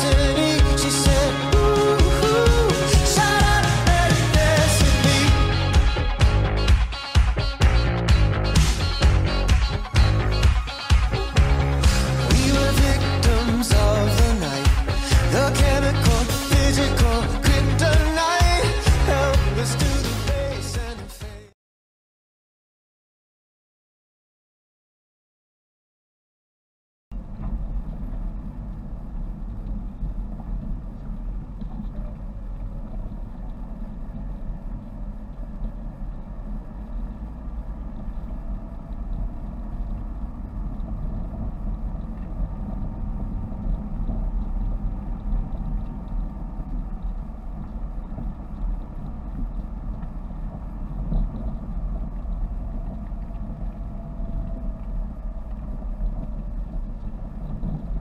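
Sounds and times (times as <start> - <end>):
car engine and road noise: 0.0 - 21.0, 27.2 - 58.0.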